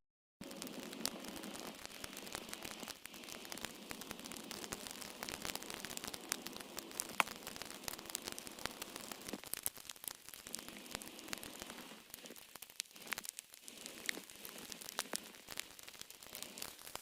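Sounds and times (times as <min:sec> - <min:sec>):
burning debris crackling and popping: 0:00.4 - 0:17.0
light rain hissing: 0:00.4 - 0:17.0.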